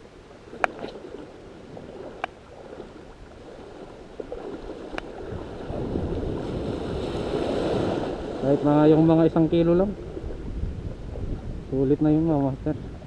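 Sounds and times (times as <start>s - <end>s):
waves lapping on sand: 0.0s - 13.0s.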